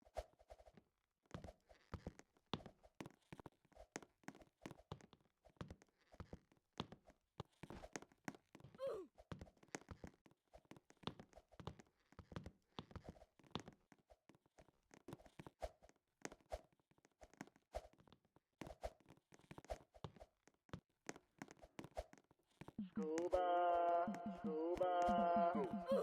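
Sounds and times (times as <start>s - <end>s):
faint irregular clicks and taps: 1.3s - 23.3s.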